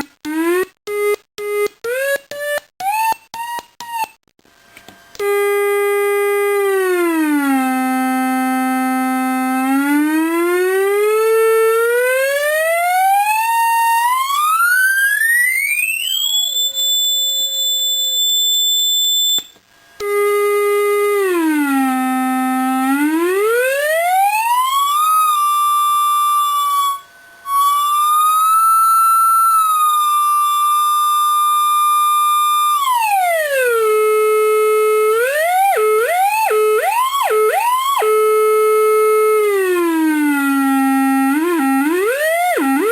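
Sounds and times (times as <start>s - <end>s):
buzzy siren-like oscillator tone: 5.2s - 42.9s.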